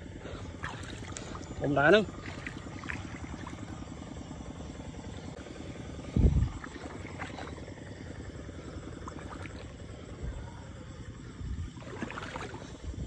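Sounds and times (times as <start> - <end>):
wading in shallow water: 0.0 - 13.0.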